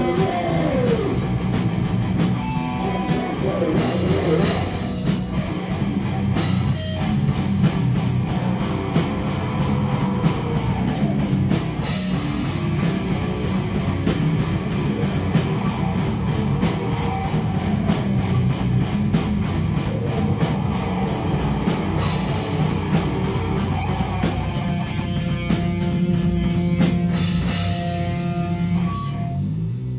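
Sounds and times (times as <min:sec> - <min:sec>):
fast drum beat: 0:00.0 - 0:28.4
live rock music: 0:00.0 - 0:29.9.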